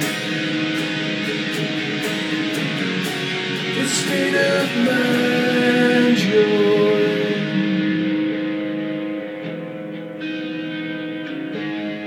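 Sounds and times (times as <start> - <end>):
guitar-led instrumental music: 0.0 - 12.0.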